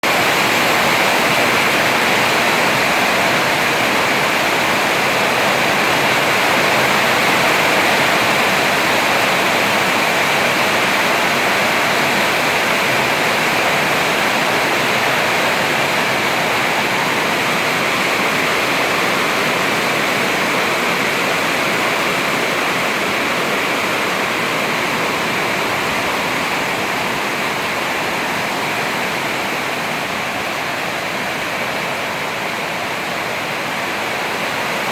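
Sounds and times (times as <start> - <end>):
rain pouring: 0.0 - 34.9.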